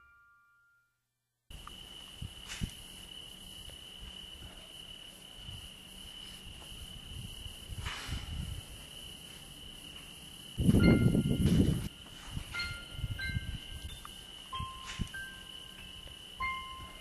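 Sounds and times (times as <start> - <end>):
crickets trilling: 1.5 - 17.0.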